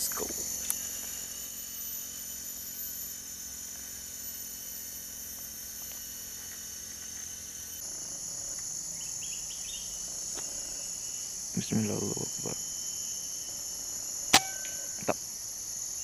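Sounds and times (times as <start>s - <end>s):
chorus of forest insects: 0.0s - 16.0s.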